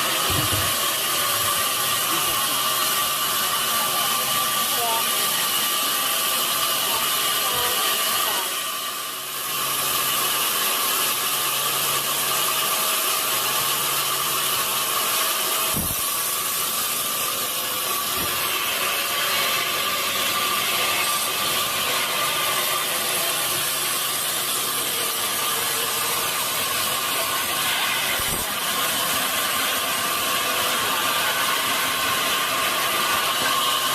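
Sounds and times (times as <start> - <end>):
saw cutting through log: 0.0 - 33.9.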